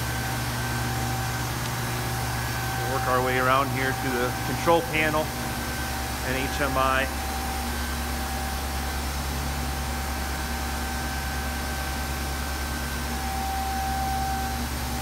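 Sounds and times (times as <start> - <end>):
constant machine tones: 0.0 - 15.0
steady machinery hum: 0.0 - 15.0.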